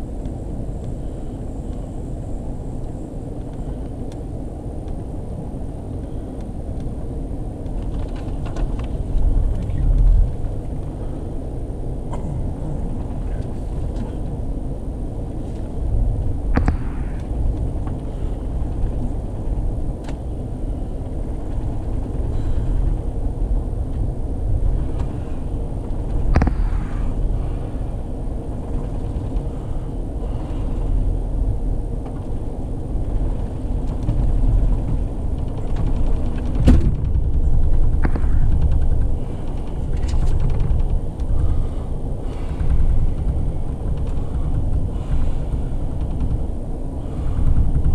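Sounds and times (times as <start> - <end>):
train rumbling from inside: 0.0 - 47.9.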